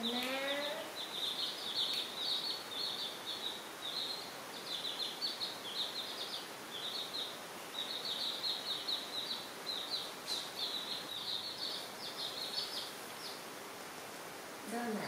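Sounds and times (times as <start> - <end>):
baby chicks peeping: 0.0 - 13.6.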